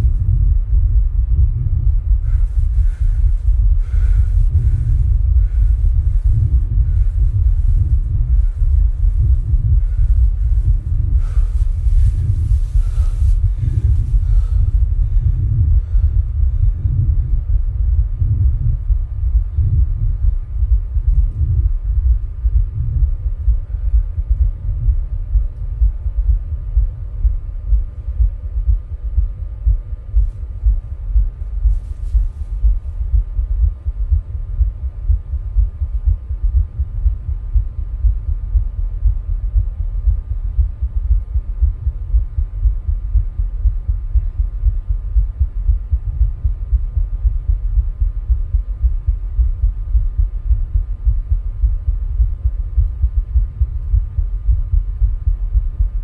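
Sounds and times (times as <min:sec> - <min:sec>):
heartbeat thumping: 0:00.0 - 0:56.0.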